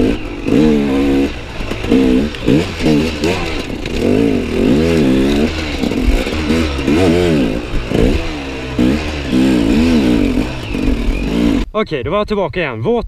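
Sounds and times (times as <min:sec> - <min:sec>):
dirt bike engine revving: 0:00.0 - 0:11.7.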